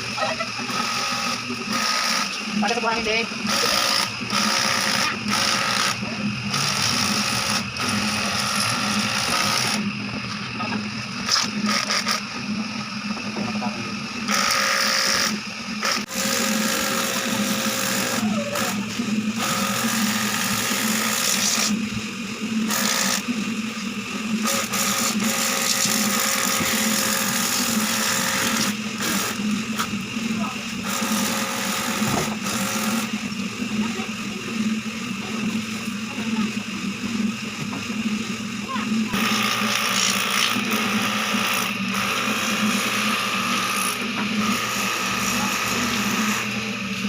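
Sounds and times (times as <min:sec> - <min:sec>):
small electric motor humming: 0:00.0 - 0:47.0.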